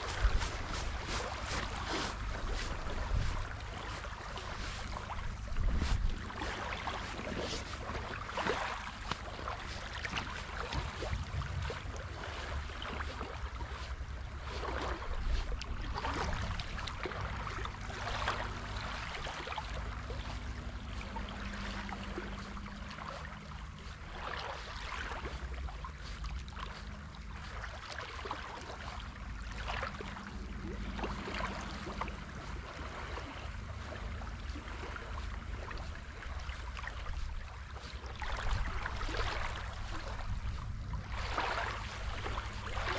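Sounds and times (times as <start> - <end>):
low wind rumble on microphone: 0.0 - 42.9
small waves lapping at shore: 0.0 - 42.9.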